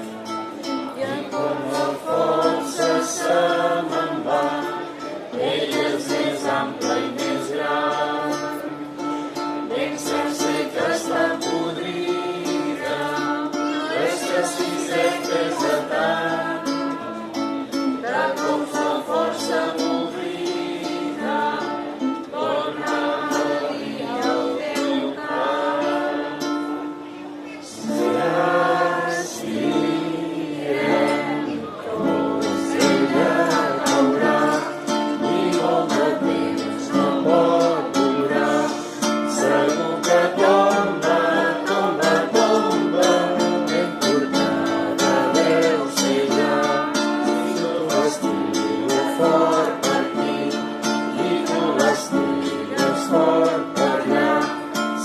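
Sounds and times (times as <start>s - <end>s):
several people singing together: 0.0s - 55.0s
strummed acoustic strings: 0.0s - 55.0s.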